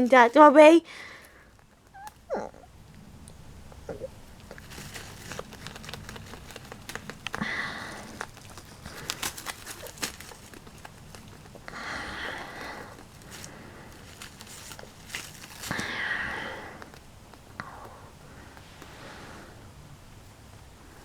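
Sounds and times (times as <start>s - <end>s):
rabbit rustling on mat: 2.9s - 21.0s.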